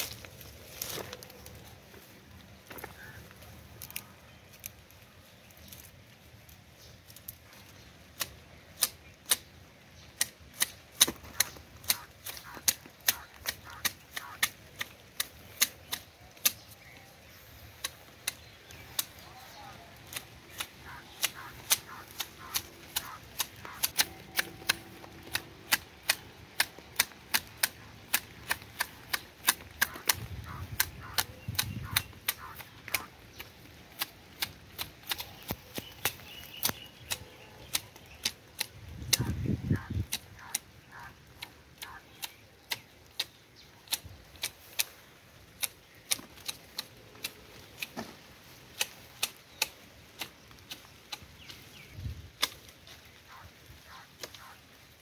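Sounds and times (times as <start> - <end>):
hedge shears snipping: 8.1 - 9.5, 10.2 - 54.6.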